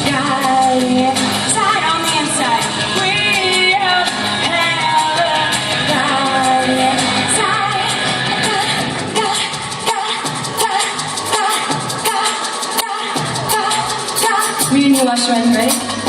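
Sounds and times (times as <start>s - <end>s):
pop music with sung vocal: 0.0s - 16.0s.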